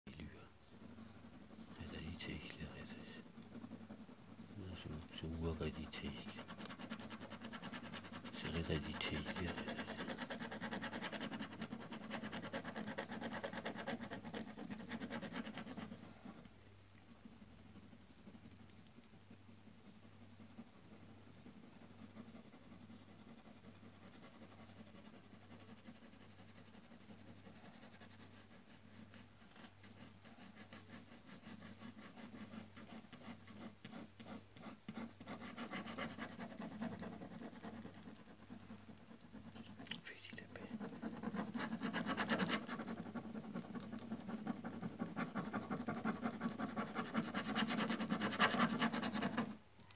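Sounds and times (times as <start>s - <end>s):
ballpoint pen scratching on paper: 0.2s - 49.6s.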